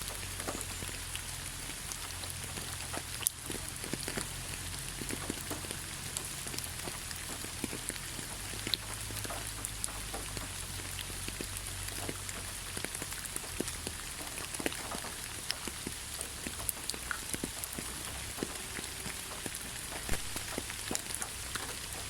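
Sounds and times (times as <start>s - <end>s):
raindrops pattering close by: 0.0s - 22.0s
steady rain hiss: 0.0s - 22.0s.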